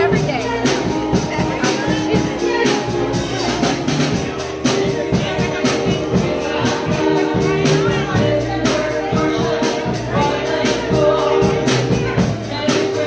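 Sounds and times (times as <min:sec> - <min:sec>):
church band music: 0:00.0 - 0:13.0
held keyboard chords: 0:00.0 - 0:13.0
steady drum beat: 0:00.0 - 0:13.0
voices: 0:00.0 - 0:13.0.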